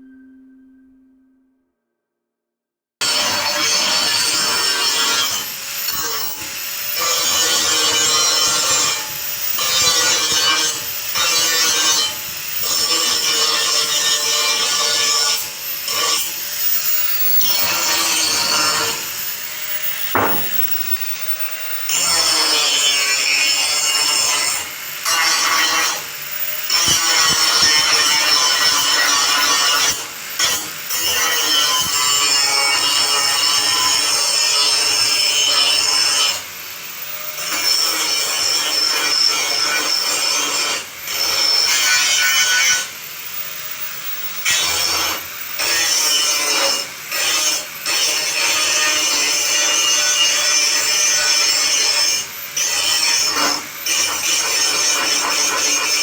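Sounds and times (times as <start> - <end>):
saw cutting through metal: 3.0 - 56.0.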